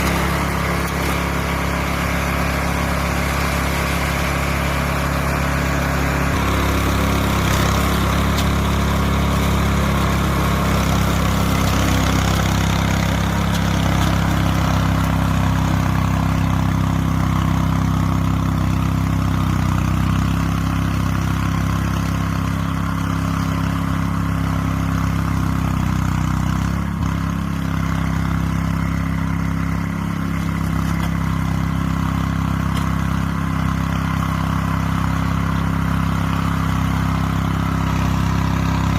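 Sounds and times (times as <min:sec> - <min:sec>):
small mower engine running: 0:00.0 - 0:38.9.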